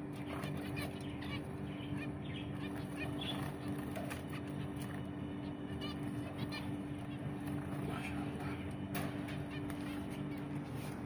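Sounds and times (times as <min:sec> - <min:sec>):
finches beeping calls: 0:00.0 - 0:07.6, 0:09.2 - 0:10.6
steady low hum: 0:00.0 - 0:11.0.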